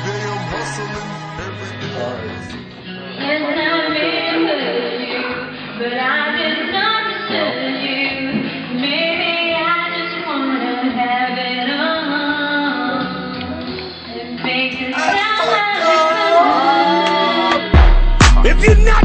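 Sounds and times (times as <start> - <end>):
song with singing voice: 0.0 - 19.0.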